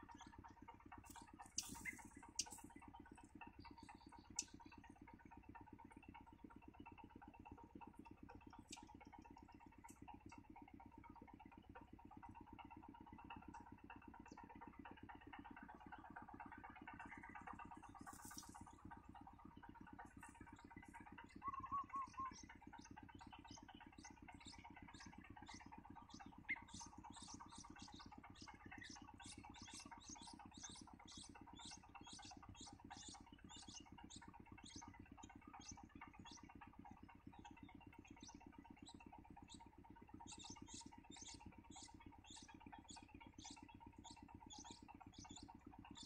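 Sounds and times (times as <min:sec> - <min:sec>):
distant engine idling: 0:00.0 - 0:46.0
low pulsing hum: 0:00.0 - 0:46.0.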